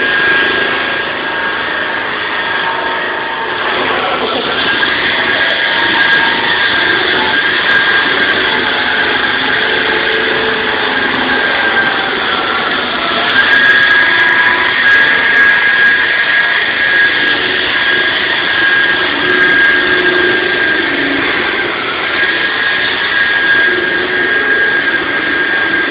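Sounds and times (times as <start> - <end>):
concrete saw blade whining: 0.0 - 25.9.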